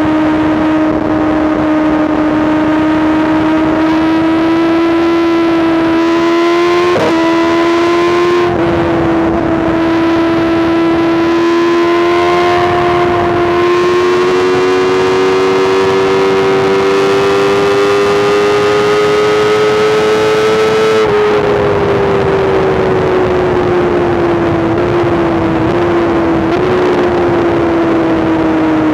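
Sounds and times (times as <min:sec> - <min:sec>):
motorcycle engine at high revs: 0:00.0 - 0:28.9.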